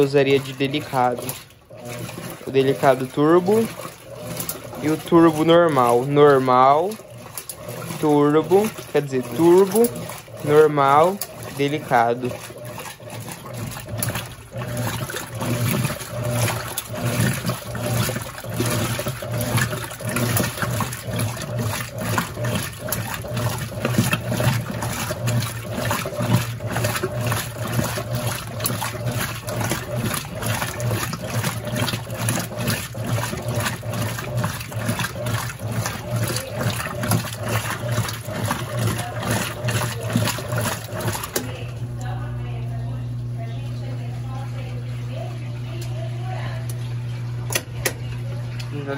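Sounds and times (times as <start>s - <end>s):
low motor hum: 0.0s - 48.9s
washing machine sloshing water: 0.0s - 48.9s.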